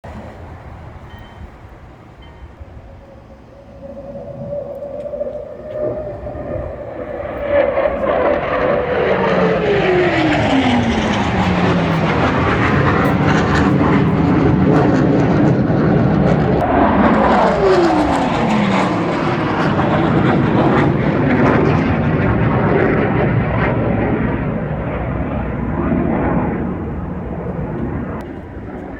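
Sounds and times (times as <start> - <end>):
aircraft flying past low: 2.4 - 28.9.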